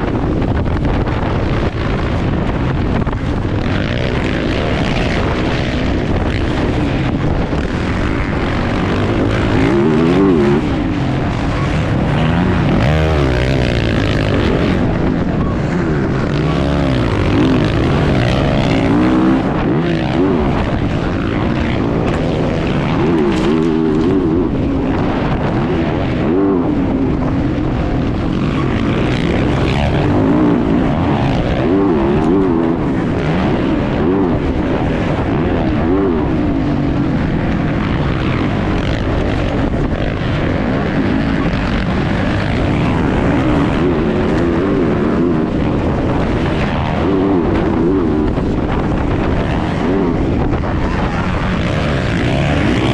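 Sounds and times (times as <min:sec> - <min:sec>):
motocross bike engine racing: 0:00.0 - 0:52.9.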